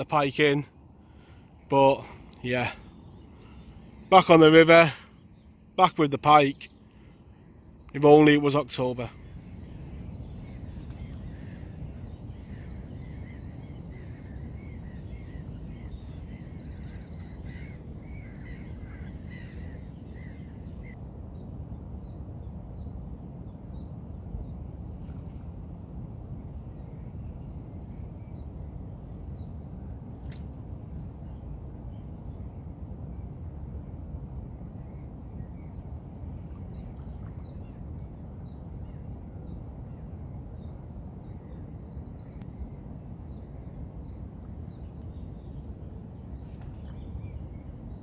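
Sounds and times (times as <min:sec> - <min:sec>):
small birds chirping: 0:00.0 - 0:32.4, 0:34.8 - 0:48.0.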